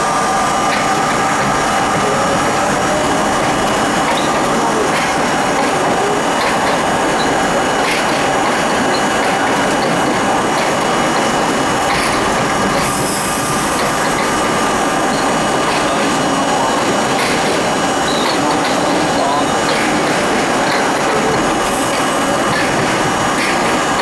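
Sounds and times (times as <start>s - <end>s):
subway wheels rumbling on rails: 0.0s - 24.0s
wheels clicking over rail joints: 0.0s - 24.0s.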